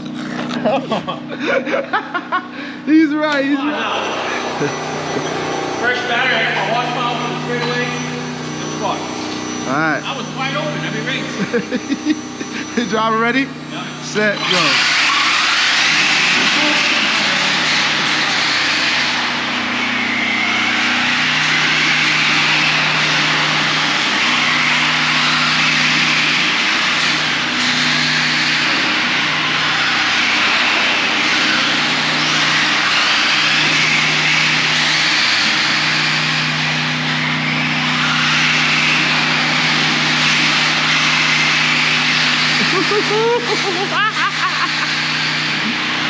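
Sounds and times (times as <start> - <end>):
electric motors whining: 0.0 - 46.0.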